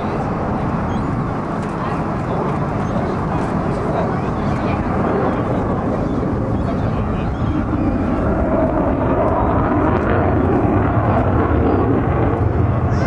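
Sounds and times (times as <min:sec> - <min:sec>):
jet engine rumble overhead: 0:00.0 - 0:13.0.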